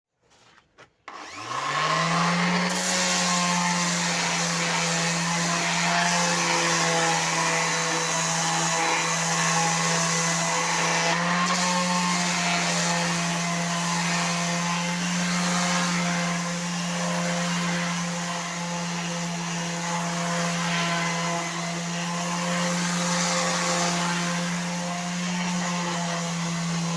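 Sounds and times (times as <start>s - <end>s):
electric sander sanding wood: 1.1s - 26.9s.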